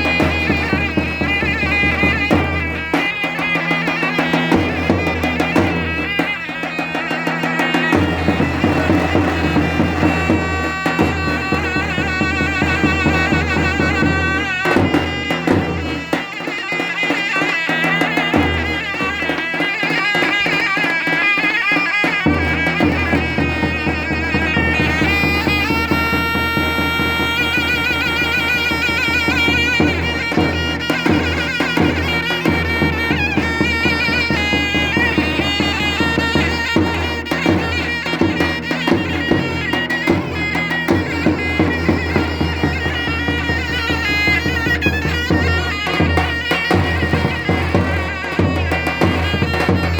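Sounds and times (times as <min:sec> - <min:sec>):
shrill reed pipe melody: 0:00.0 - 0:49.9.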